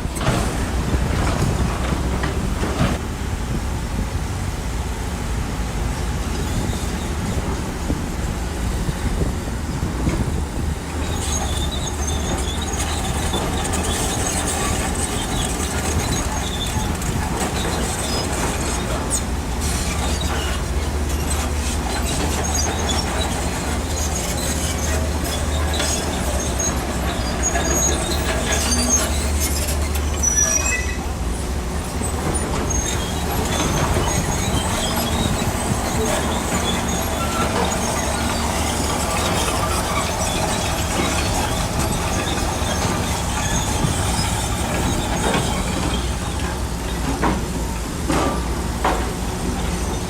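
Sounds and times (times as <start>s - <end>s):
diesel engine drone: 0.0s - 50.0s
steel tracks squeaking: 5.6s - 50.0s.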